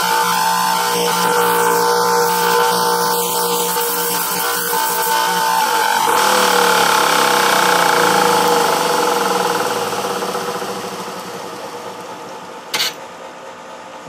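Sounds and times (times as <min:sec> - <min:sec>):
grinder motor winding down: 0:00.0 - 0:12.7.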